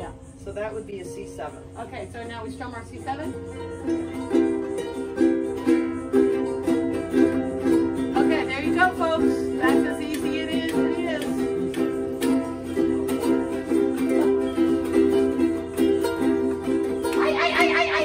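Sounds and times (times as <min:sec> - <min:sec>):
ukuleles strumming a chord: 0:02.2 - 0:18.0.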